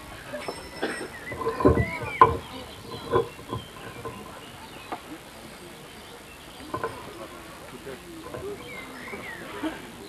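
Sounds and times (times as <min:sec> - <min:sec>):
faint scattered voices: 0:00.0 - 0:10.0.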